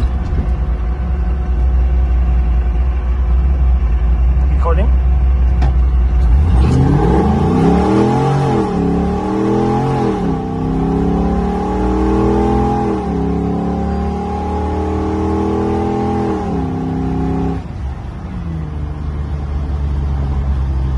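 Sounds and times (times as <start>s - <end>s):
engine accelerating under load: 0.0s - 20.9s.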